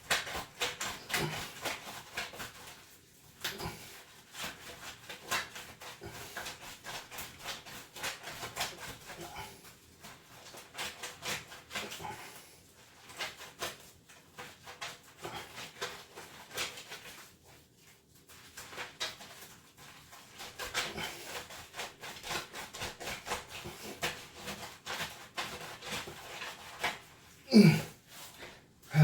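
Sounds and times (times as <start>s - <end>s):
cloth being scrubbed by hand: 0.0s - 29.0s.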